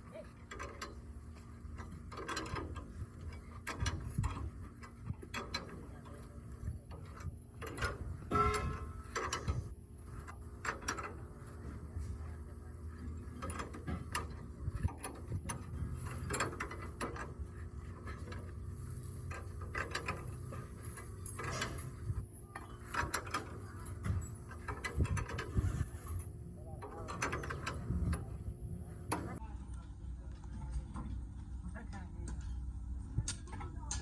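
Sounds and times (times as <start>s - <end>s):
hand tools clanking on metal: 0.0s - 29.4s
low steady hum: 0.0s - 34.0s.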